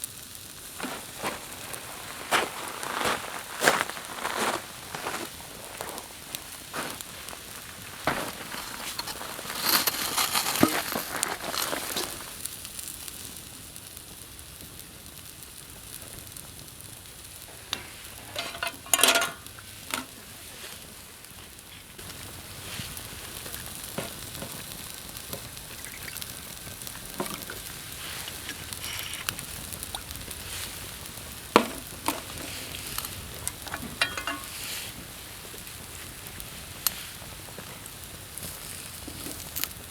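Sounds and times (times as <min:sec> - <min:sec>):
food sizzling in a pan: 0:03.5 - 0:39.9.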